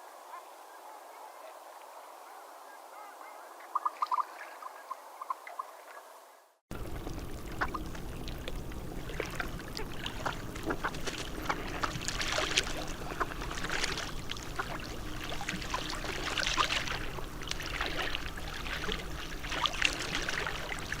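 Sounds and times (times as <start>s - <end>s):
water splashing and lapping: 0.0s - 21.0s.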